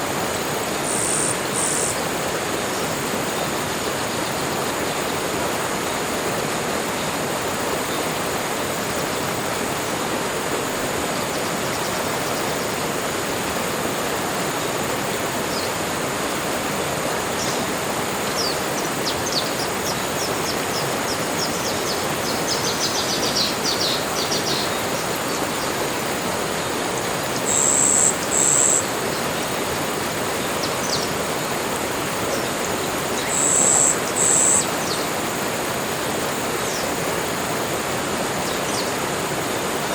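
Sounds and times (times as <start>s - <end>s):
insect-like whine: 0.1s - 39.9s.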